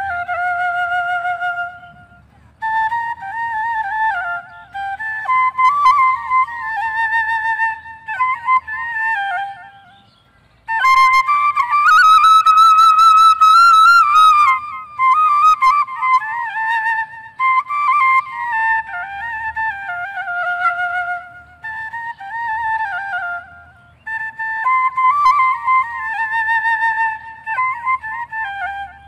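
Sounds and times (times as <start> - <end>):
bamboo flute melody: 0.0 - 29.0.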